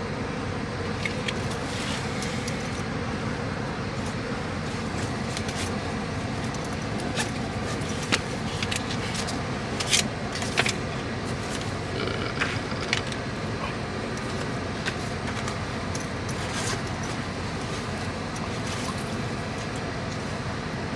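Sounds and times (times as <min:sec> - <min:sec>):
belongings rattling in a car: 0:00.8 - 0:20.9.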